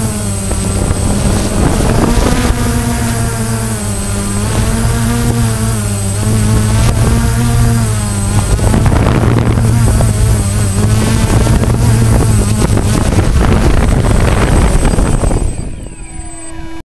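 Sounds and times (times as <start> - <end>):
drone motors humming: 0.0 - 16.8
fluttering propwash: 0.0 - 16.8.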